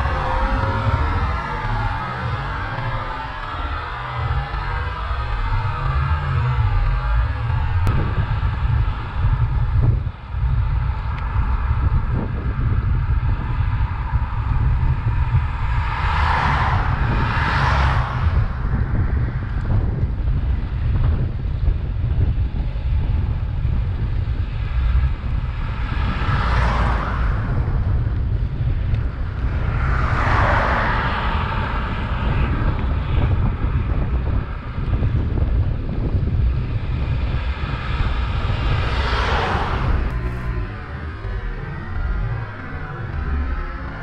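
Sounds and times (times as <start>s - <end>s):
cars passing: 0.0s - 23.0s, 23.9s - 44.0s
wind buffeting microphone: 0.0s - 44.0s.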